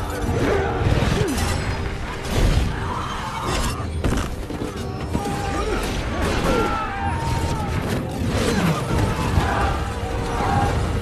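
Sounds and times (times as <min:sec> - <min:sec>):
film music score: 0:00.0 - 0:11.0.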